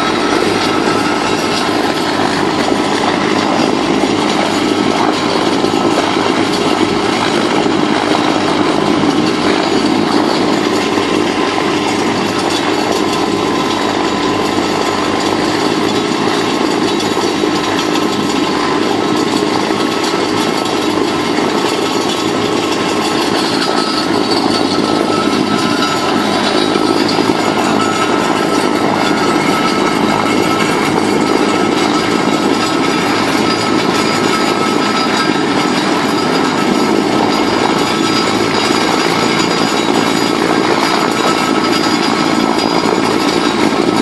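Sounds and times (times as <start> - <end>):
slurry mixer running: 0.0 - 44.0.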